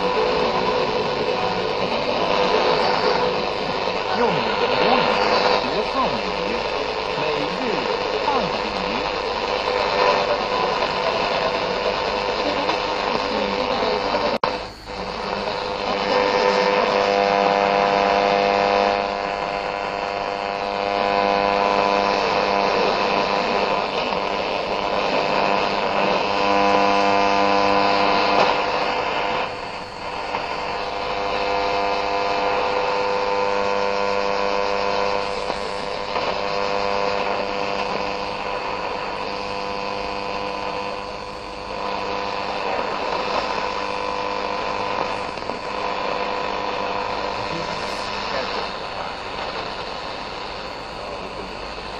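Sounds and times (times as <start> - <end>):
radio static with buzzing hum: 0.0 - 51.9
radio tuning click: 0.0 - 51.9.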